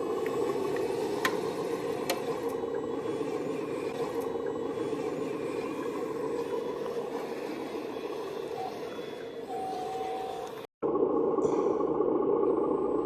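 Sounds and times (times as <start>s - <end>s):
model excavator motor drone: 0.0s - 11.0s.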